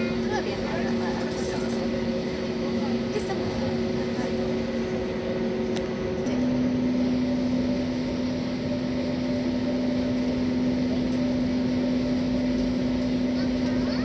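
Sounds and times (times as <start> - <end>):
airplane cabin drone: 0.0 - 14.0
engine and air-conditioning hum: 0.0 - 14.0.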